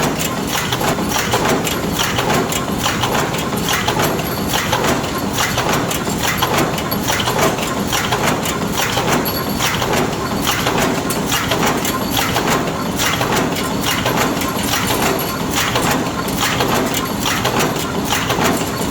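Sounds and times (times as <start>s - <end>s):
forging machine metal clatter: 0.0s - 18.9s.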